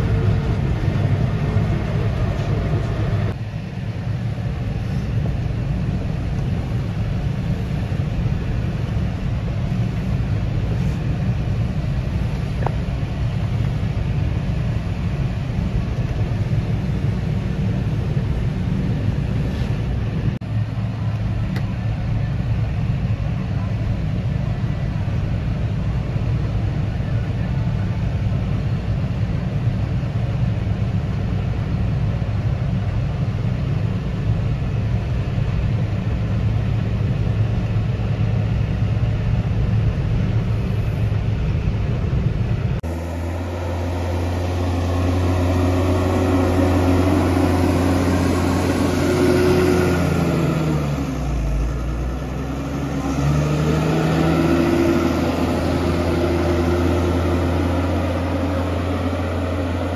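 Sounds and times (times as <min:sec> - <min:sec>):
forage harvester rumbling: 0:00.0 - 0:59.9
tractor engine working: 0:00.0 - 0:59.9.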